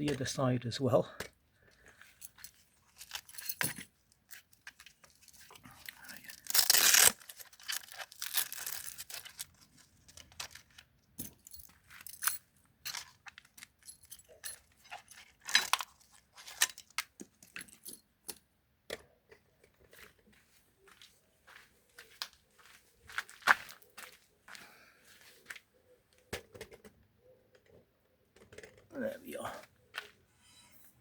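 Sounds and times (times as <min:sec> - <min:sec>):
person moving and handling things: 0:01.0 - 0:18.3, 0:19.0 - 0:31.0.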